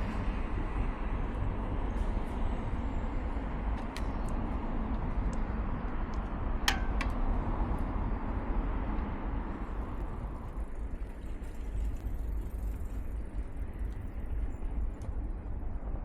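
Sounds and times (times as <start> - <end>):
road noise: 0.0 - 16.0
street traffic: 0.0 - 16.0
wind rumble on microphone: 0.0 - 16.0.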